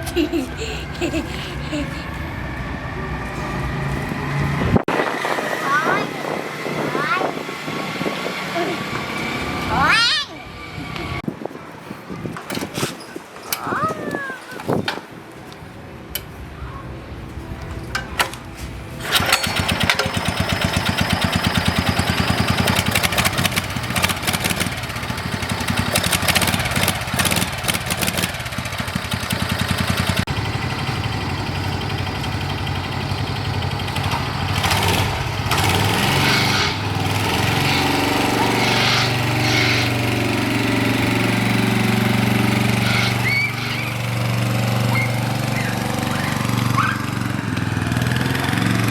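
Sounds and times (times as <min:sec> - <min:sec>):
small go-kart engine running: 0:00.0 - 0:11.2, 0:19.0 - 0:48.9.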